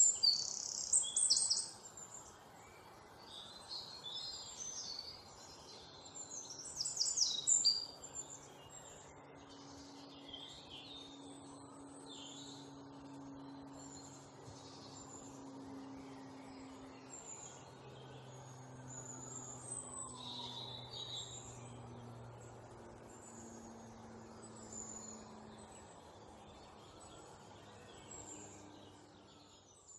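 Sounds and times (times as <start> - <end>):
birds chirping: 0.0 - 29.9
low steady hum: 0.0 - 29.9.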